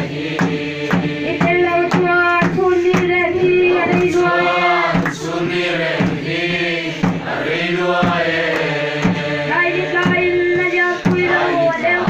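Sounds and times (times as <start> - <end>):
congregation singing a hymn: 0.0 - 12.0
steady drum beat: 0.0 - 12.0.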